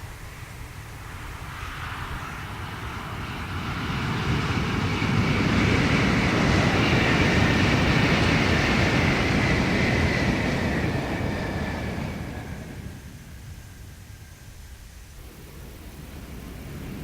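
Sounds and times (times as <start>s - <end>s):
high train whine: 0.0s - 17.0s
high-speed train passing: 0.0s - 17.0s.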